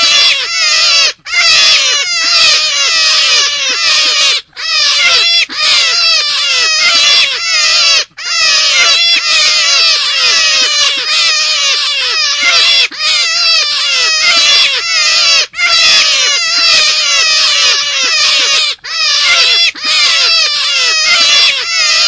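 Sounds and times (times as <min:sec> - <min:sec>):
squealing animal calls: 0:00.0 - 0:22.0.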